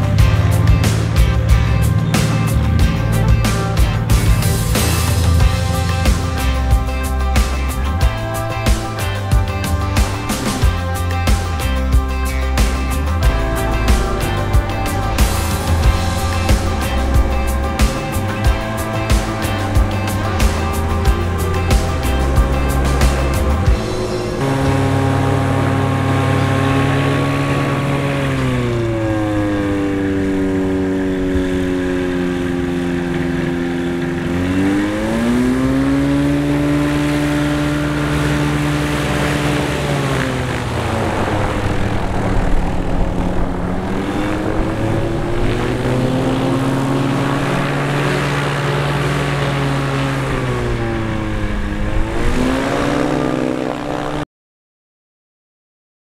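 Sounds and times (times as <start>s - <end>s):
light aircraft engine and propeller: 0.0s - 54.2s.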